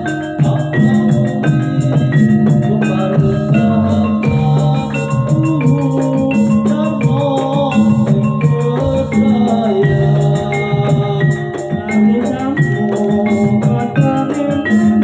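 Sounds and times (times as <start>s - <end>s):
gamelan-style ensemble playing: 0.0s - 15.0s
person singing: 0.0s - 15.0s.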